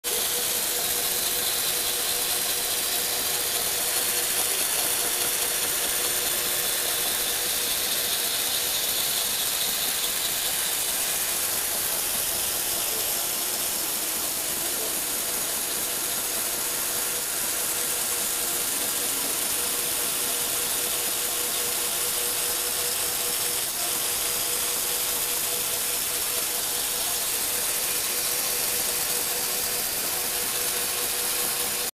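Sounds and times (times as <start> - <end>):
electric motors driving plastic gears: 0.1 - 31.9.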